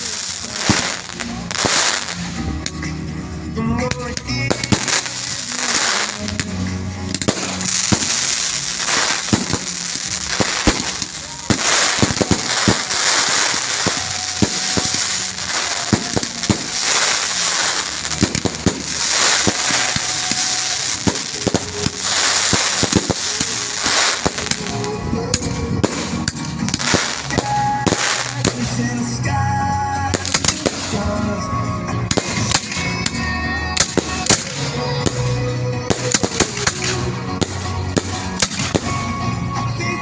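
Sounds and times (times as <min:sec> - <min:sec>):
fireworks bangs and pops: 0:00.0 - 0:40.0
fireworks crackling and hiss: 0:00.0 - 0:40.0.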